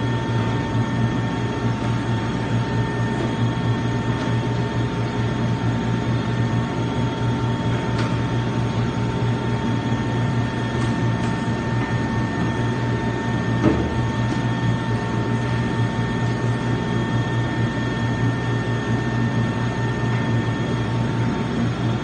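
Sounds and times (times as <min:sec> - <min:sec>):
meat grinder motor humming: 0:00.0 - 0:22.0
meat grinder whine: 0:00.0 - 0:22.0.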